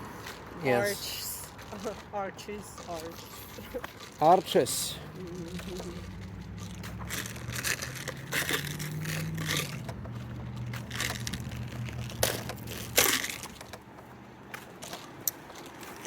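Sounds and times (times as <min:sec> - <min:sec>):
footsteps crunching: 0:00.0 - 0:16.0.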